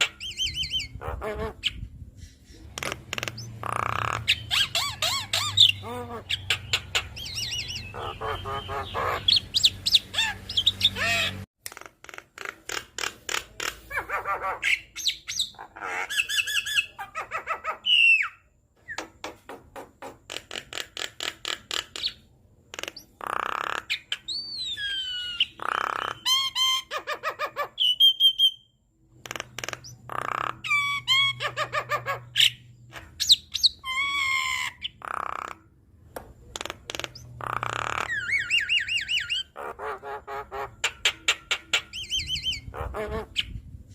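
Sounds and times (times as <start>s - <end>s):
bird singing varied song: 0.0s - 11.5s, 14.0s - 19.4s, 21.8s - 35.6s, 36.4s - 43.9s.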